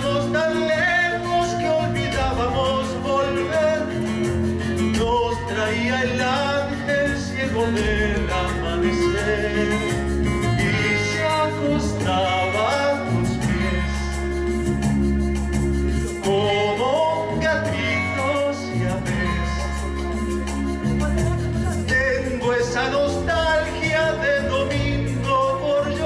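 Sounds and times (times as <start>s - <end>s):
instrumental accompaniment: 0.0s - 26.0s
man singing with vibrato: 0.0s - 26.0s.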